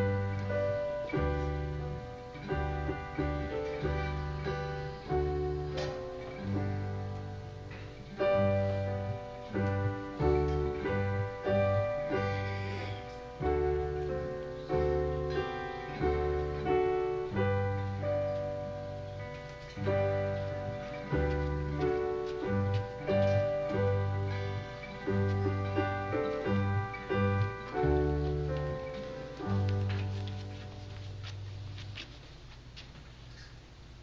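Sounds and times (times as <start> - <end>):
piano playing slow chords: 0.0 - 32.0.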